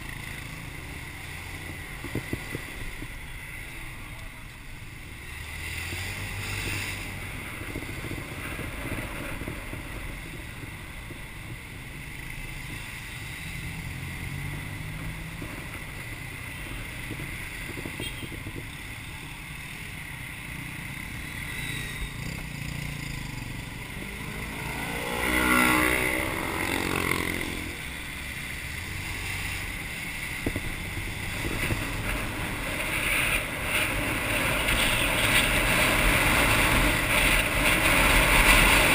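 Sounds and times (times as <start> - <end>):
pitched traffic sound: 0.0 - 38.9
wind and road noise: 0.0 - 38.9.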